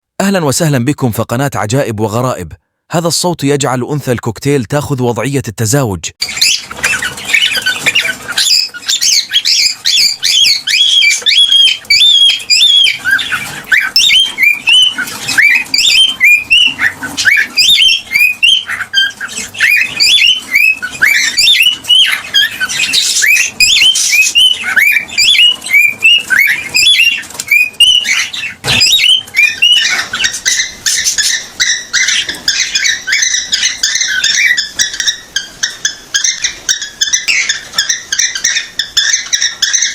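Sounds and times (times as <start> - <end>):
cockatiel whistling song: 6.2 - 39.9.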